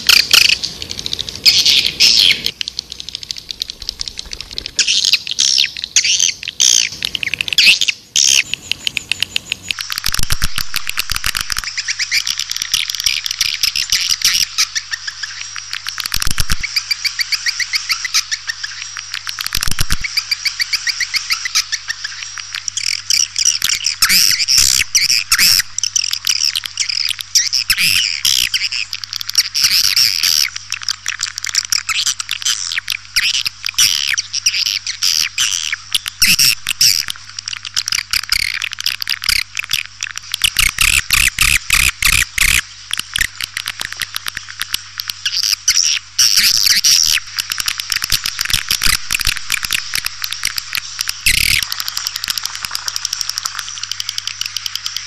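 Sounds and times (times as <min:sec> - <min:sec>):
steady low hum: 0:00.0 - 0:55.0
swiftlet chirps and twitters: 0:00.0 - 0:55.0.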